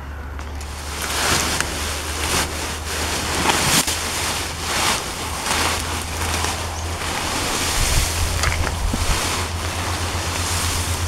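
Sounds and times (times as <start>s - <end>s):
steady low rumble: 0.0s - 11.0s
hand rustling grass and leaves: 0.5s - 11.0s.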